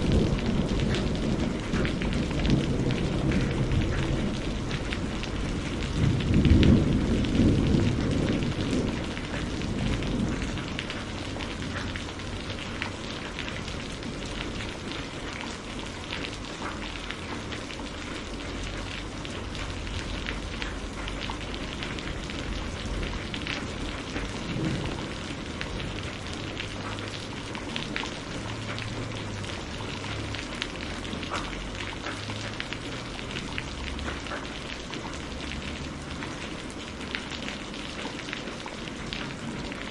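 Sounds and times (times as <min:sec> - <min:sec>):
low rumble of thunder: 0:00.0 - 0:39.9
raindrops ticking: 0:00.0 - 0:39.9
steady rain falling: 0:00.0 - 0:39.9.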